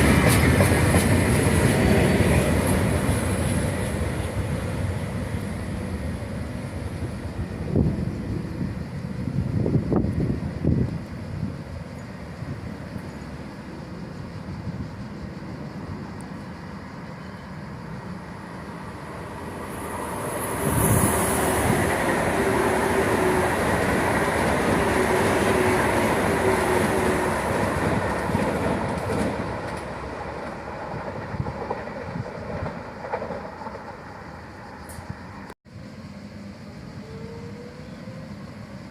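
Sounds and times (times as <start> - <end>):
train passing rumble: 0.0 - 38.9
train whine: 0.0 - 38.9.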